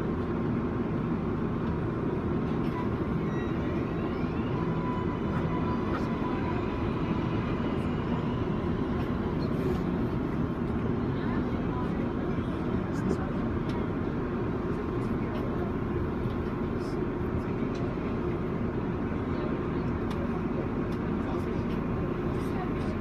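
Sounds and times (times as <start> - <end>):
subway car rumble and hum: 0.0 - 23.0.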